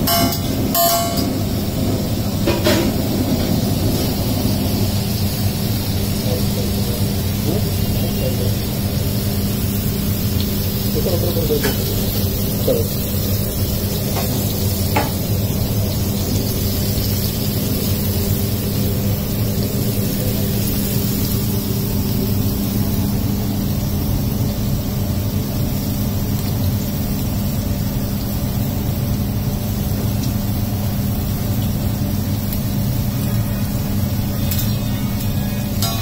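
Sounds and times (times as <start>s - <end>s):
constant low hum: 0.0s - 36.0s
food sizzling in oil: 0.0s - 36.0s.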